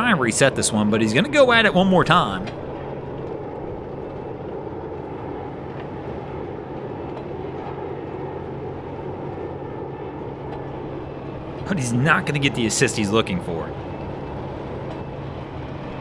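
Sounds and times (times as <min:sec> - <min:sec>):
boat engine running at low speed: 0:00.0 - 0:16.0.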